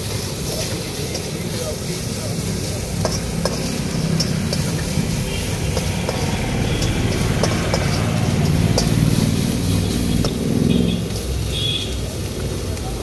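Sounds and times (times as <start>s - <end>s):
spatula scraping a wok: 0.0s - 12.0s.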